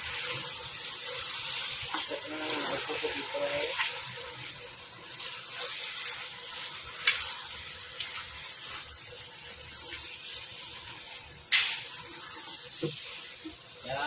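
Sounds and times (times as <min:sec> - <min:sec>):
pork sizzling in metal pot: 0:00.0 - 0:14.0.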